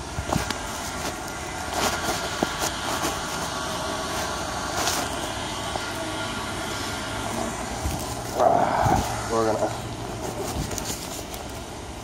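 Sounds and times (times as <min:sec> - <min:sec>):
footsteps crunching dry leaves: 0:00.0 - 0:06.1, 0:06.8 - 0:11.8
brush rustling: 0:00.0 - 0:12.0
steady background rumble: 0:00.0 - 0:12.0.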